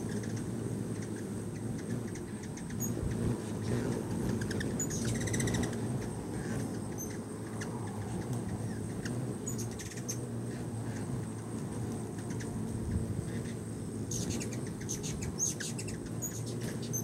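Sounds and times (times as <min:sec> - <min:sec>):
hummingbird squeaky chip calls: 0:00.0 - 0:10.2, 0:12.2 - 0:12.5, 0:13.2 - 0:17.0
hummingbird chittering: 0:00.0 - 0:17.0
hummingbird wings humming: 0:00.0 - 0:17.0.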